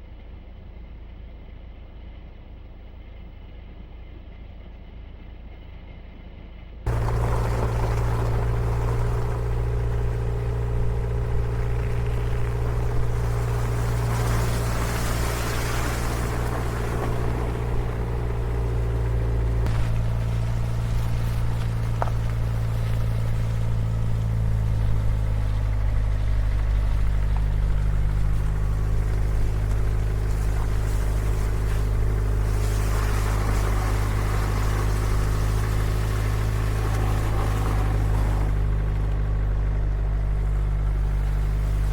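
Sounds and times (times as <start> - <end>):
truck engine droning: 0.0 - 41.9
tyre and road hiss: 6.9 - 41.9.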